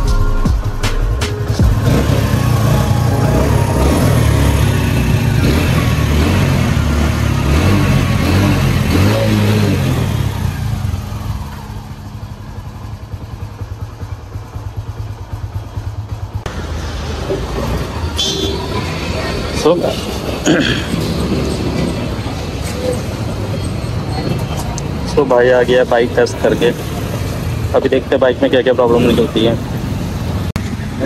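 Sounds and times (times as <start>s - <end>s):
motorcycle engine revving: 1.4s - 31.0s.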